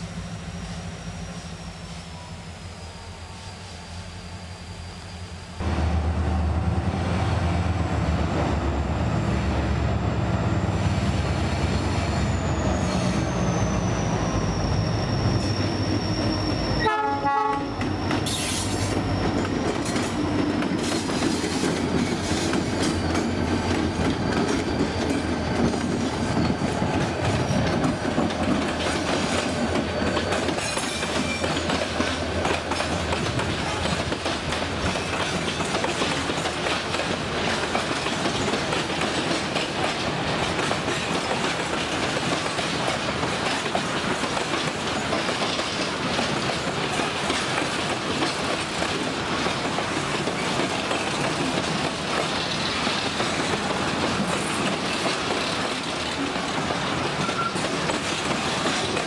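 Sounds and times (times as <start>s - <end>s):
train wheels clattering on rails: 10.7s - 59.0s.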